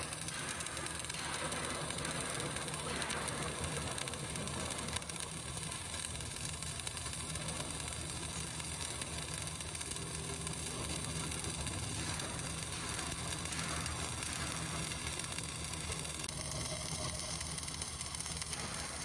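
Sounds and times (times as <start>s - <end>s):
welding arc buzzing: 0.0s - 19.0s.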